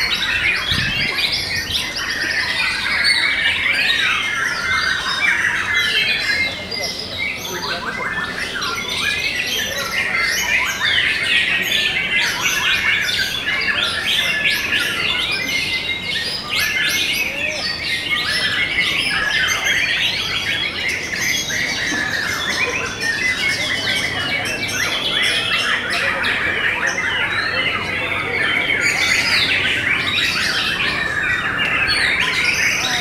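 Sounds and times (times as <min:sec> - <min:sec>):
songbirds whistling and trilling: 0:00.0 - 0:33.0.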